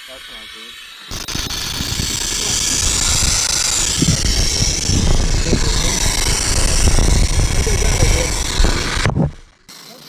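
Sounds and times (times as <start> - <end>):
steam and coolant hissing: 0.0 - 10.0
low rumble: 1.4 - 9.5.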